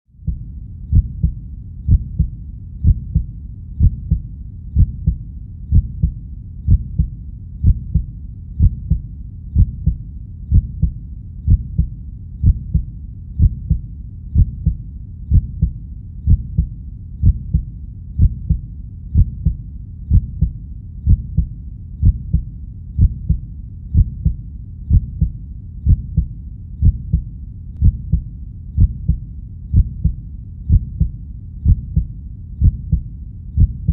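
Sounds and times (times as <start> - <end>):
heartbeat thumps: 0.2 - 33.9.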